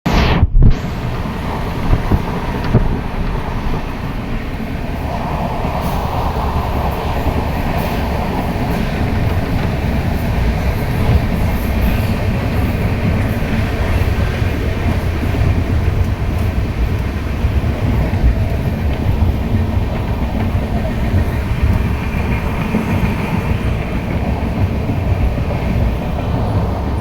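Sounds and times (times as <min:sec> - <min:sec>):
train rumbling: 0:00.0 - 0:27.0
sharp train jolt: 0:00.1 - 0:27.0.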